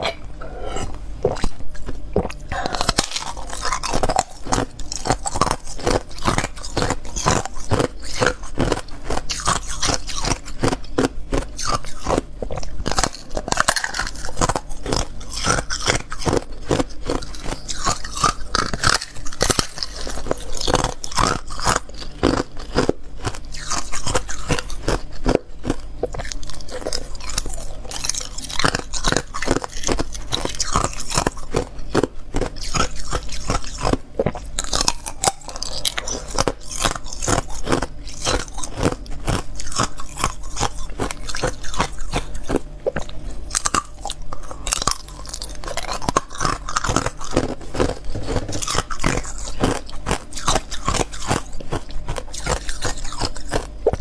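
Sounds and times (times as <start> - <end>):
ice crunching between teeth: 0.0 - 54.0.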